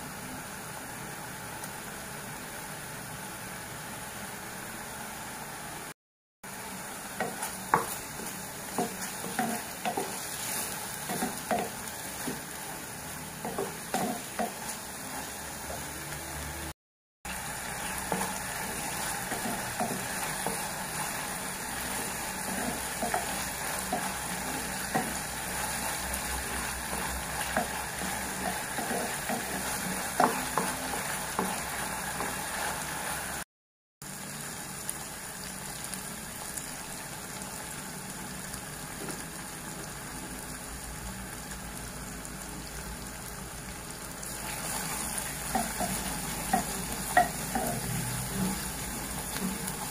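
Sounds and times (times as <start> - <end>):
food sizzling in oil: 6.4 - 49.9.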